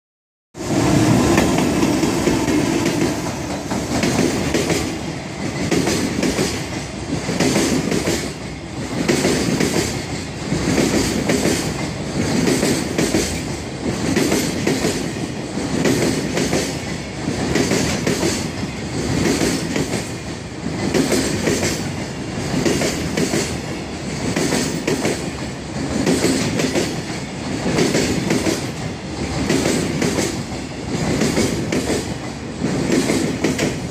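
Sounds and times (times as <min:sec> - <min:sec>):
train wheels clattering over rail joints: 0:01.3 - 0:33.9.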